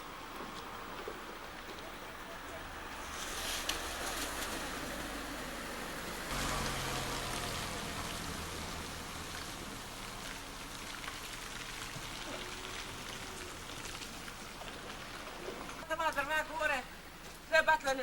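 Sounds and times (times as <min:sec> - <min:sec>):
running water: 0:00.0 - 0:17.6.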